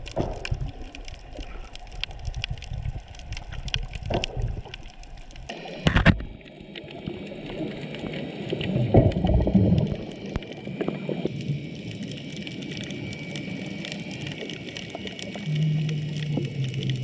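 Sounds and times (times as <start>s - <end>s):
fine underwater crackling: 0.0s - 17.0s
gurgling rush of bubbles: 0.0s - 17.0s.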